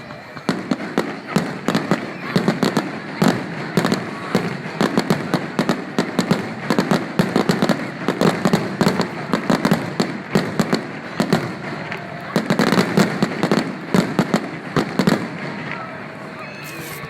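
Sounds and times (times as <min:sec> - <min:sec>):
fireworks bangs and pops: 0:00.0 - 0:17.0
fireworks crackle: 0:00.0 - 0:17.0.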